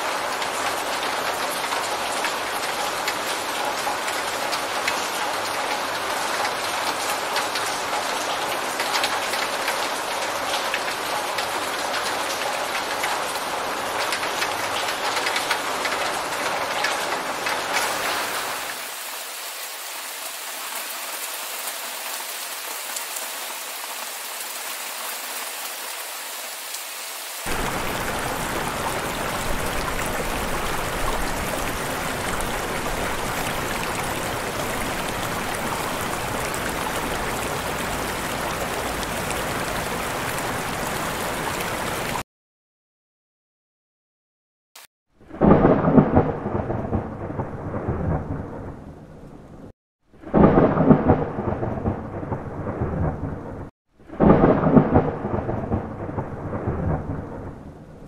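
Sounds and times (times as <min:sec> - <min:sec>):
steady rain: 0:00.0 - 0:42.2, 0:45.2 - 0:58.0.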